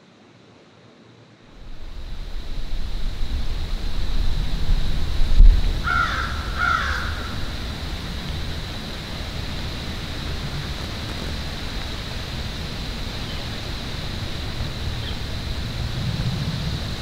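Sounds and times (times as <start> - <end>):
faint high whine: 0.0 - 17.0
rushing wind: 1.5 - 17.0
wind rumble on microphone: 1.6 - 17.0.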